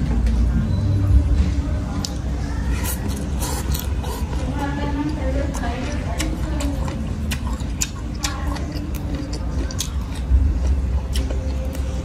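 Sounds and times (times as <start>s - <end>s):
person chewing crunchy food: 2.0s - 12.0s.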